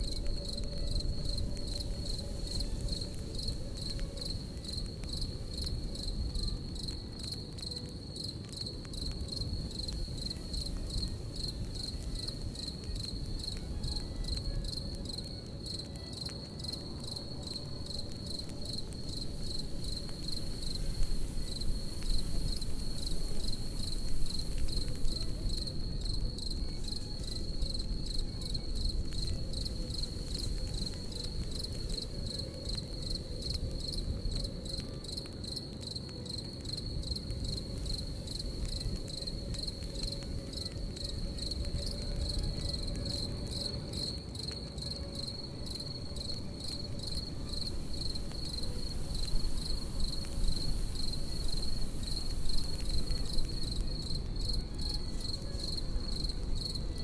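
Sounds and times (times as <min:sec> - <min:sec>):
campfire crackling: 0:00.0 - 0:57.0
crickets chirping: 0:00.0 - 0:57.0.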